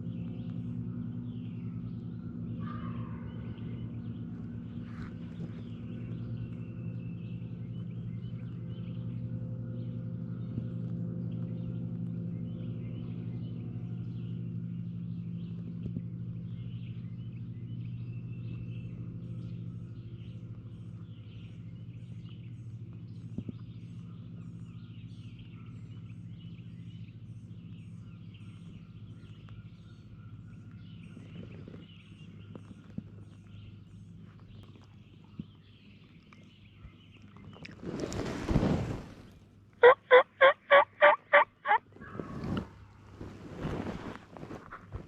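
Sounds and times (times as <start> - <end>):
distant engine humming: 0.0 - 45.0
songbirds singing: 0.0 - 45.0.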